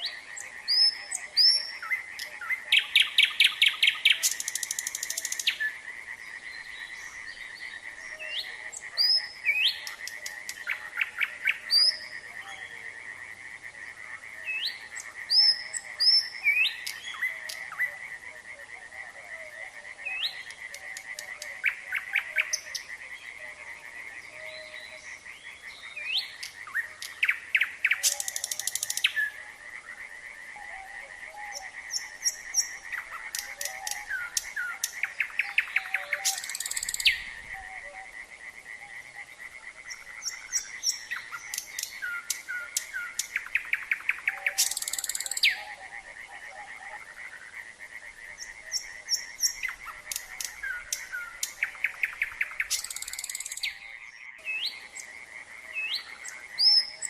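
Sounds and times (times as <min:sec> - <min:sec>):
nightingale singing: 0:00.0 - 0:13.2, 0:14.2 - 0:57.0
frogs trilling: 0:00.0 - 0:57.0.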